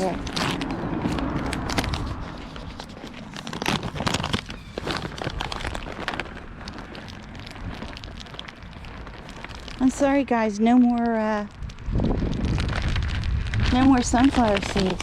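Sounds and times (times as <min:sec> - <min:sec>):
low rumble: 0:00.0 - 0:10.6, 0:11.2 - 0:15.0
bag rustling and crinkling: 0:00.0 - 0:15.0
small clicks and crackles: 0:00.0 - 0:15.0.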